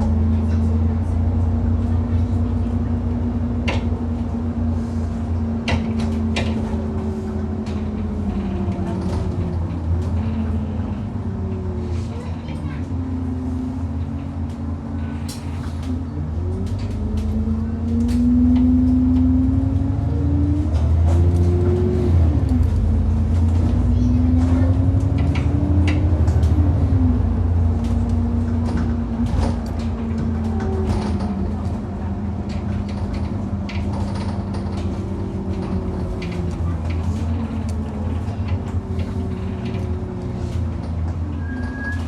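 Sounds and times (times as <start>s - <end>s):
bus engine pulling away: 0.0s - 42.0s
bus knocks and rattles: 0.0s - 42.0s.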